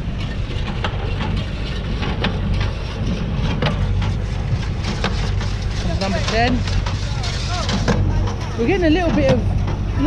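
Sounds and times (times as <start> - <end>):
baler knocking and clanking: 0.0 - 10.0
tractor engine running: 0.0 - 10.0.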